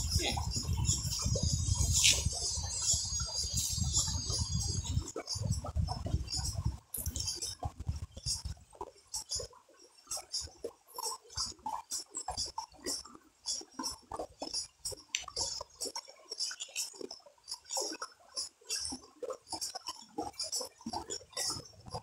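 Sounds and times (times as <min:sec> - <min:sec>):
creek water gurgling over rocks: 0:00.0 - 0:22.0.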